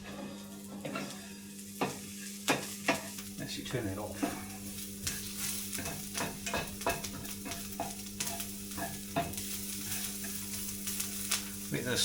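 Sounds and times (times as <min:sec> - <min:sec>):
sausages sizzling in a pan: 0:00.0 - 0:12.0
steady low hum: 0:00.6 - 0:12.0.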